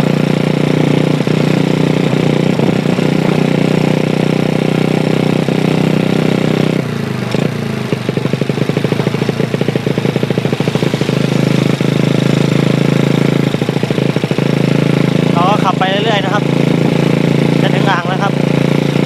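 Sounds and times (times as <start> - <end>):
minibike engine running: 0.0 - 19.0.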